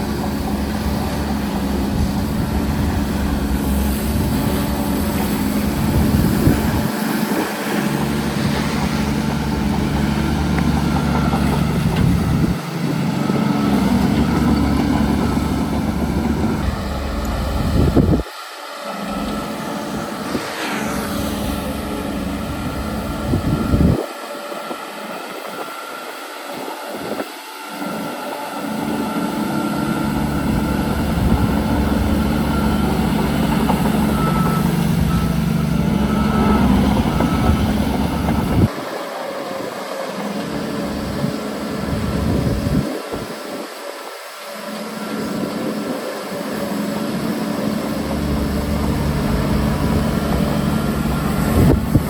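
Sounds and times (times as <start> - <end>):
heavy diesel engines under load: 0.0 - 52.0.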